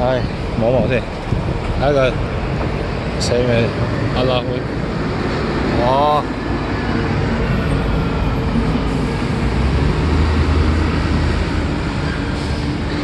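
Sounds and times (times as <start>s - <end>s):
heavy road traffic roar: 0.0s - 13.0s
heavy truck engine rumble: 0.0s - 13.0s.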